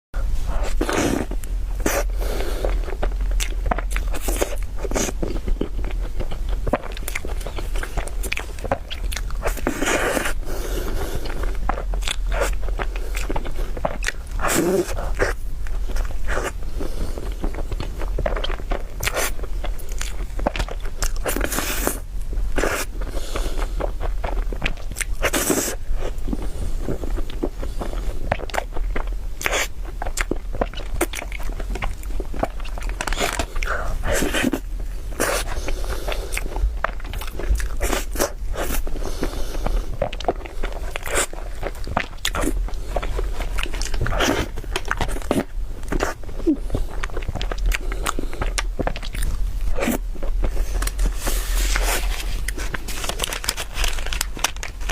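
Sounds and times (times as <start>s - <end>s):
low hum: 0.2s - 54.9s
person chewing crunchy cake: 0.2s - 54.9s.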